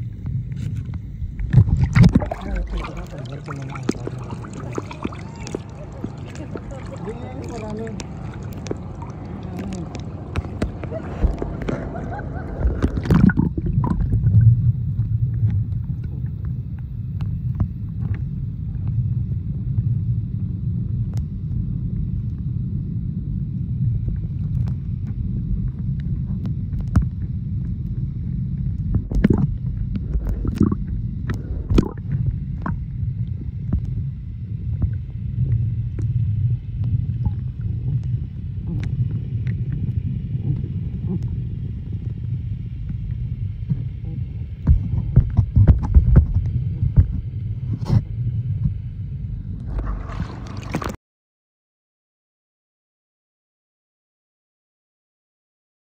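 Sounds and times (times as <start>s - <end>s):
muffled underwater rumble: 0.0s - 51.0s.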